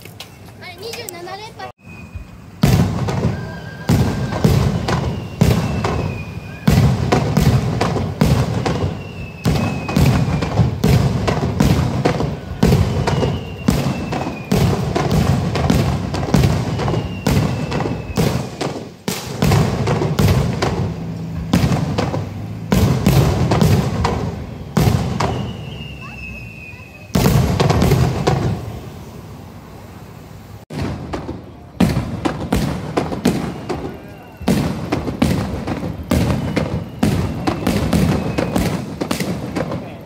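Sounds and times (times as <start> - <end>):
firework shells bursting: 1.9 - 29.0, 30.7 - 40.0.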